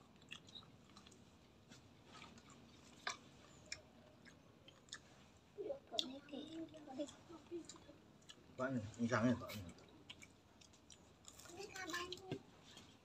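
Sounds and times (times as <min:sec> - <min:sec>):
faint chewing food: 0:00.0 - 0:13.0.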